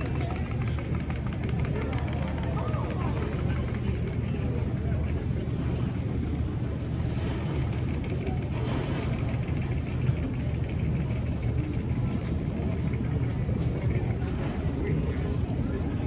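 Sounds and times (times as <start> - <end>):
low rumble of machinery: 0.0 - 16.0
murmur of distant voices: 0.0 - 16.0.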